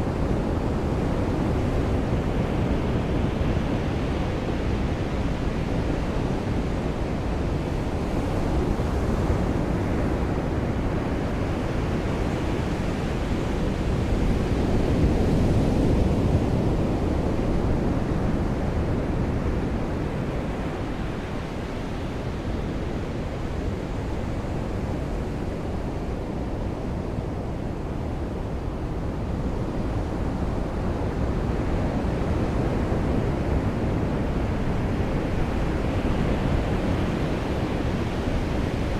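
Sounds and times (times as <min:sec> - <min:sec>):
sea surf on shore: 0:00.1 - 0:38.9.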